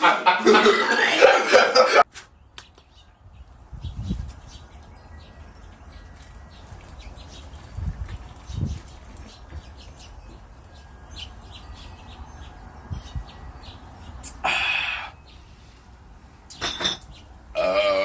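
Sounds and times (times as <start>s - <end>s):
small birds chirping: 2.1s - 17.6s.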